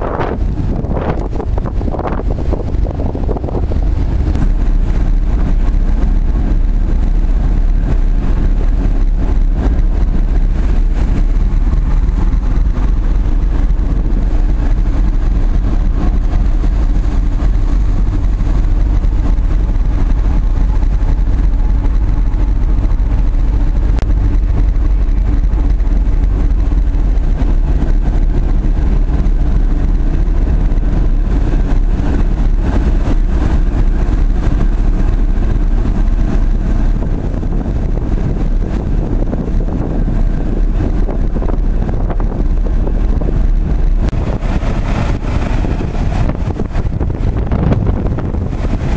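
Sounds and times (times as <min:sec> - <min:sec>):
diesel engines droning: 0:00.0 - 0:48.9.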